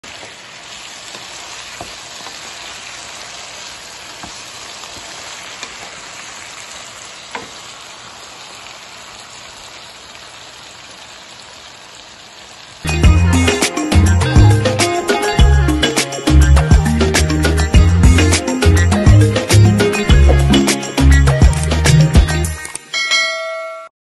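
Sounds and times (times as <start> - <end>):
food sizzling in a pan: 0.0 - 22.6.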